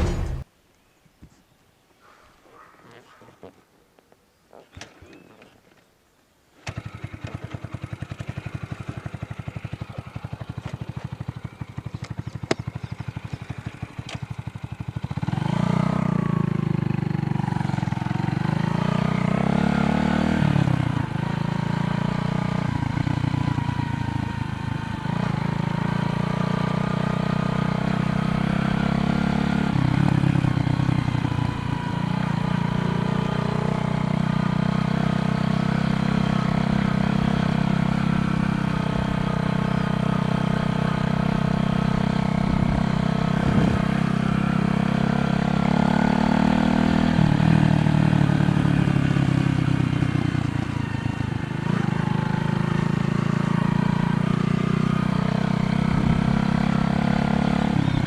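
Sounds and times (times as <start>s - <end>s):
motorcycle engine: 0.0s - 0.5s, 6.6s - 58.0s.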